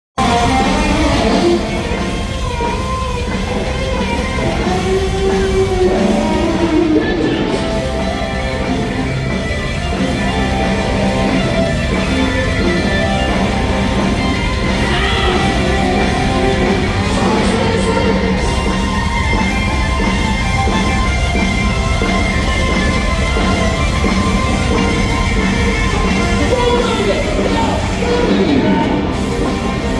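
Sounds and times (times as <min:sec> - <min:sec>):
electric guitar sliding notes: 0:00.2 - 0:29.9
live rock band playing: 0:00.2 - 0:29.9.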